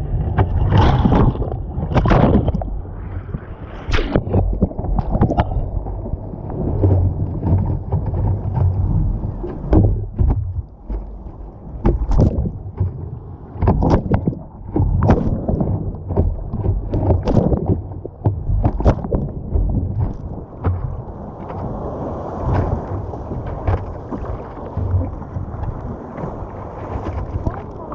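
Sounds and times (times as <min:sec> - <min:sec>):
paddle splashes: 0:00.0 - 0:27.9.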